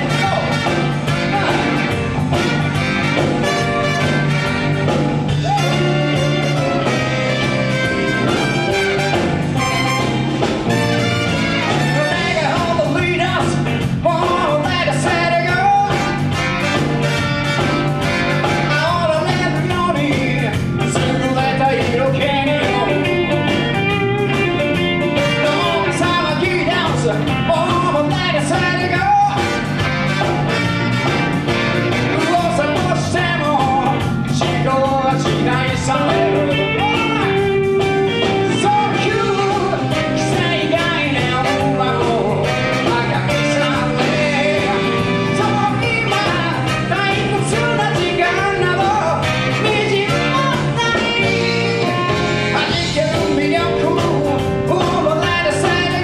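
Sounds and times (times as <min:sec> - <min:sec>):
person singing: 0:00.0 - 0:02.0, 0:03.6 - 0:10.0, 0:11.7 - 0:16.3, 0:18.6 - 0:29.6, 0:32.1 - 0:56.0
bass line: 0:00.0 - 0:56.0
guitar: 0:00.0 - 0:56.0
rock and roll band playing: 0:00.0 - 0:56.0.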